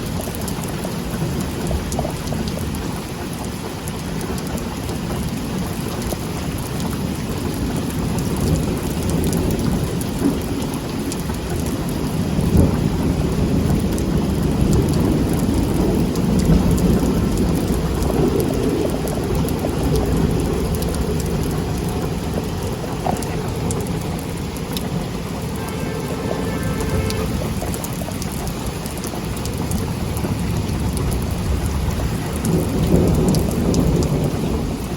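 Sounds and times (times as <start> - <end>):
heavy rain pouring: 0.0 - 34.9
thunder rumbling: 6.4 - 34.9.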